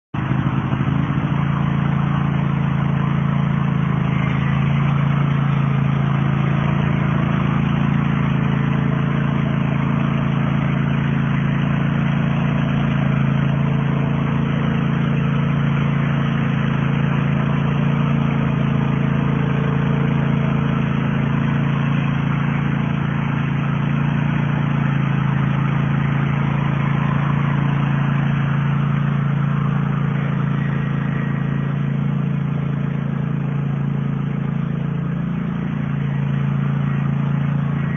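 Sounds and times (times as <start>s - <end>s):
lawn mower engine running: 0.1s - 37.9s.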